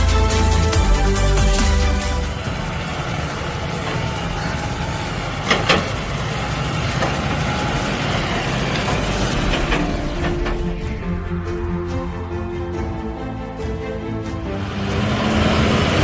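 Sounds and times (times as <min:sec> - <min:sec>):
baler working: 0:00.0 - 0:13.8
tractor diesel engine running: 0:00.0 - 0:16.0.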